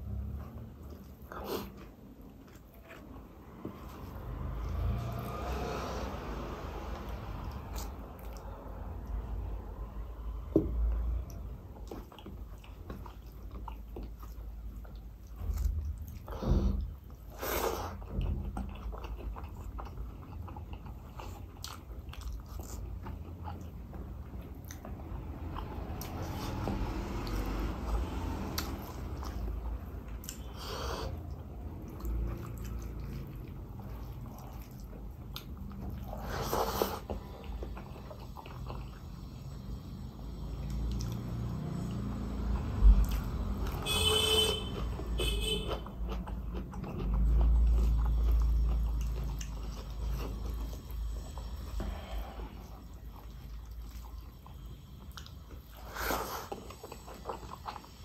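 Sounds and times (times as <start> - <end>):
chewing and wet mouth sounds: 0.0 - 58.0.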